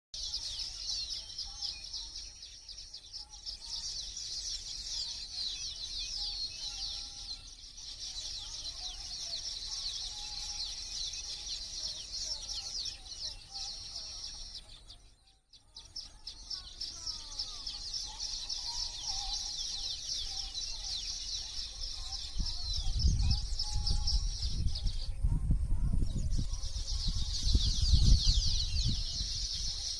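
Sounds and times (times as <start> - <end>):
small birds chirping: 0.1 - 29.9.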